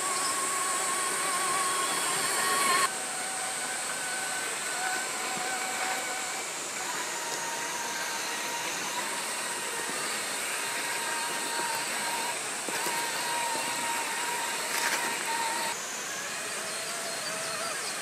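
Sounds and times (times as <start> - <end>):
electric motor and drivetrain whirring: 0.0 - 18.0
thin motor whine: 0.0 - 18.0.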